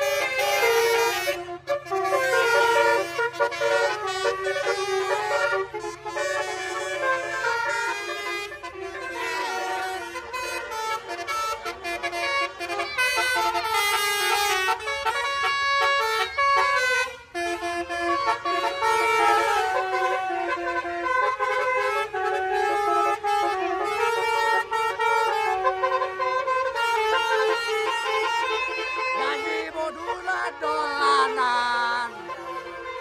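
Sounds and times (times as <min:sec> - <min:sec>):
multi-tone air horns playing tune: 0:00.0 - 0:33.0.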